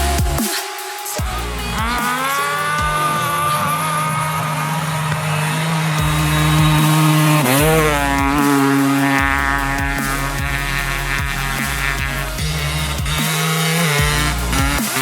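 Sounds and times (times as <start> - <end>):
motorcycle engine at high revs: 1.7 - 15.0.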